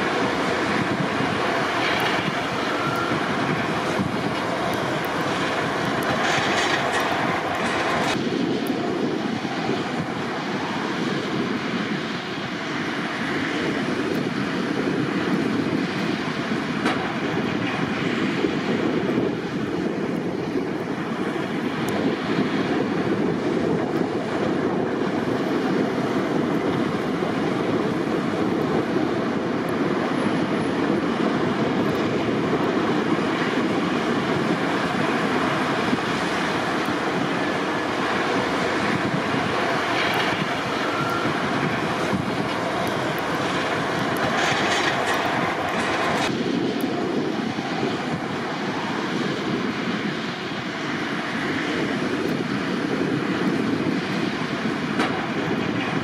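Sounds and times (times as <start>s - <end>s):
heavy machinery running: 0.0s - 56.0s.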